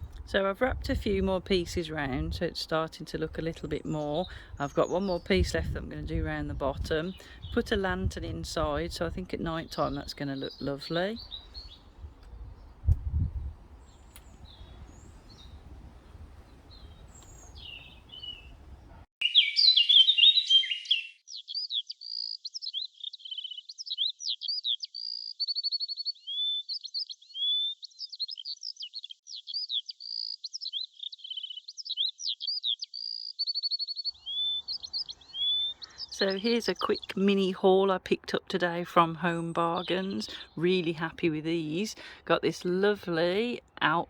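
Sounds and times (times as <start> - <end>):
songbirds chirping and trilling: 0.0 - 44.0.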